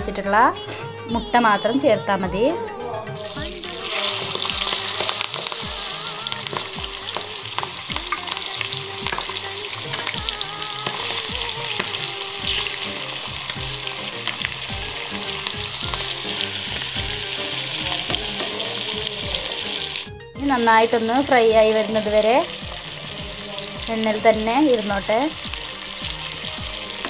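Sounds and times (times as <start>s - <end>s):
roe sizzling in hot oil: 3.2s - 27.0s.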